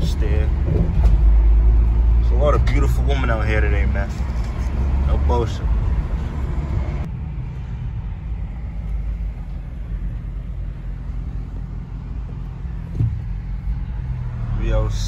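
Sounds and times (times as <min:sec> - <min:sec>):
road and engine rumble in van: 0:00.0 - 0:15.0.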